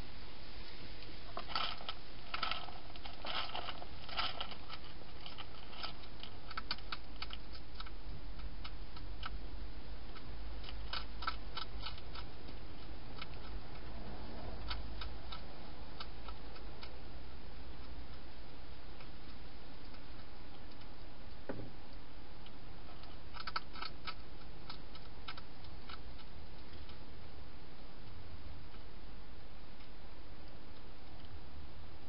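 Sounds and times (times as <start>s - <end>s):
steady hiss and low hum: 0.0s - 32.0s
hedgehog crunching dry food: 1.0s - 32.0s.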